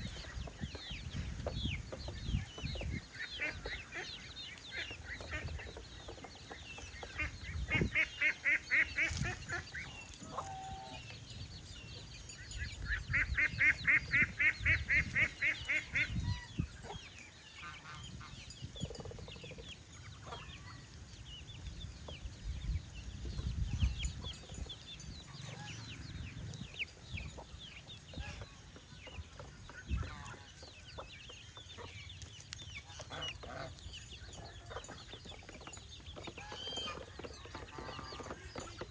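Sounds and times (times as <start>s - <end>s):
poultry clucking: 0.0s - 11.2s, 12.0s - 20.8s, 23.3s - 38.9s.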